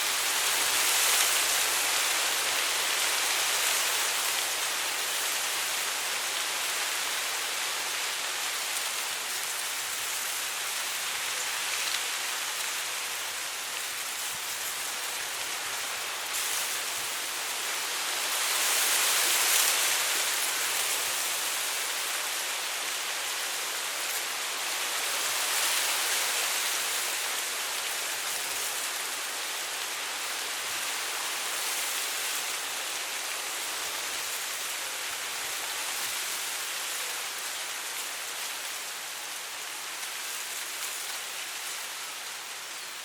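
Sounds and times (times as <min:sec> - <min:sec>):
wind rustling dry grass: 0:00.0 - 0:43.0.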